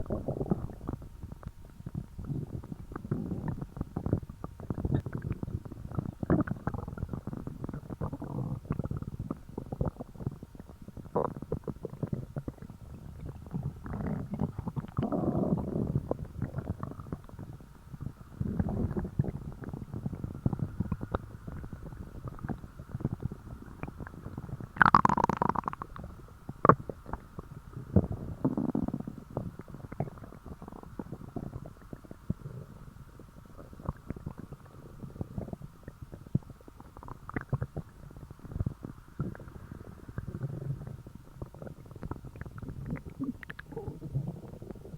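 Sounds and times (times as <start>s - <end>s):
stomach rumbling and gurgling: 0.0s - 44.9s.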